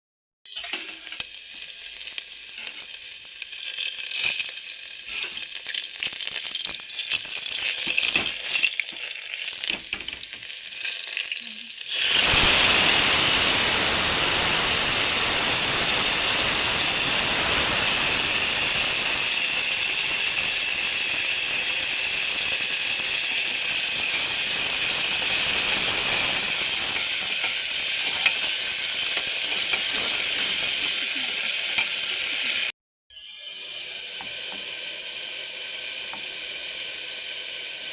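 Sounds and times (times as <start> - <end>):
food frying in a pan: 0.5 - 37.9.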